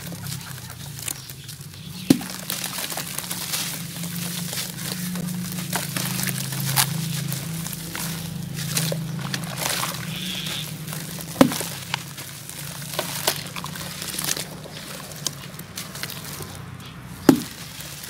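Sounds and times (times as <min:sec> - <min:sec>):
hands crumbling dirt in water: 0:00.0 - 0:18.0
water splashing: 0:00.0 - 0:18.0
low hum: 0:01.6 - 0:17.6.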